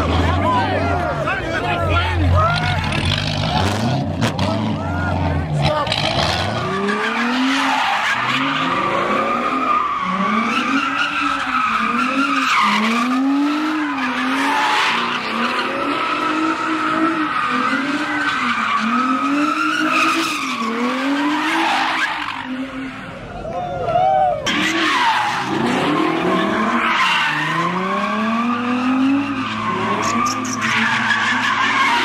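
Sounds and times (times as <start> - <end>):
car engine revving: 0.0 - 23.2, 24.5 - 32.0.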